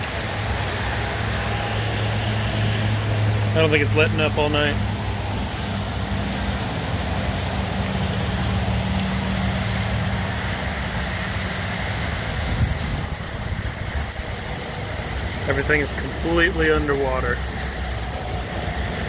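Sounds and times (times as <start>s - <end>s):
torrential rain: 0.0s - 19.0s.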